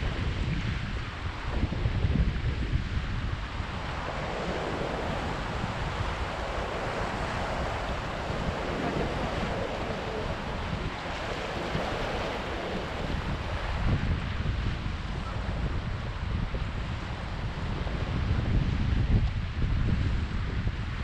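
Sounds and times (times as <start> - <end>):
waves washing on shore: 0.0 - 19.0
wind rumbling on microphone: 0.0 - 21.0.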